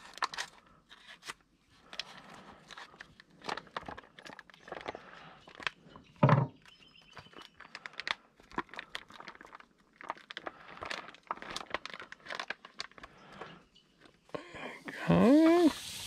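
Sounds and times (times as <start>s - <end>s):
plastic packaging crinkling and tearing: 0.0s - 5.9s, 6.6s - 14.2s.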